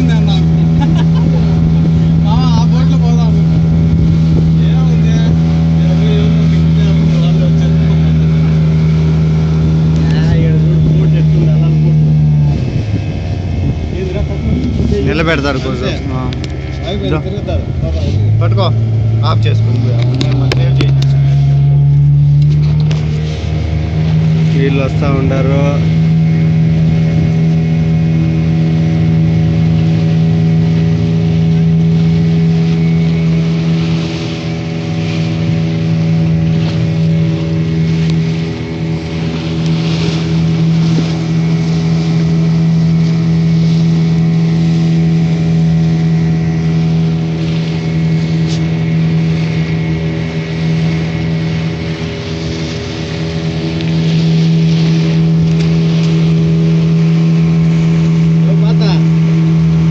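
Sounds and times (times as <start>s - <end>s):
boat engine drone: 0.0s - 59.9s
water rushing: 0.0s - 59.9s
wind: 0.0s - 59.9s.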